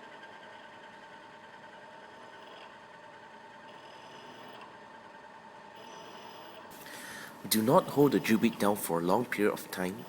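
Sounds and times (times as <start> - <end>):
milling machine motor whine: 0.0 - 10.0.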